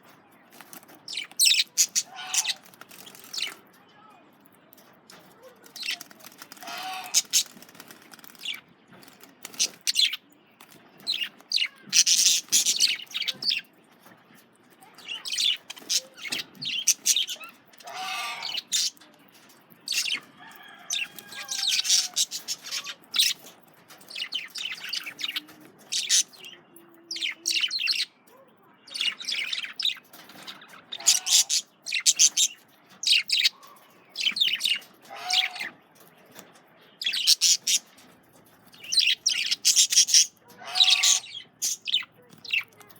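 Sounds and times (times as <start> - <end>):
budgerigars chirping and chattering: 0.5 - 3.7, 4.8 - 42.9.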